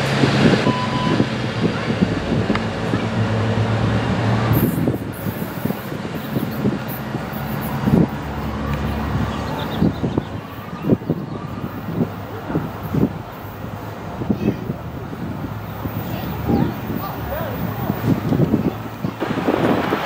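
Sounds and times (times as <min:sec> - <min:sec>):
diesel train engine humming: 0:00.0 - 0:20.0.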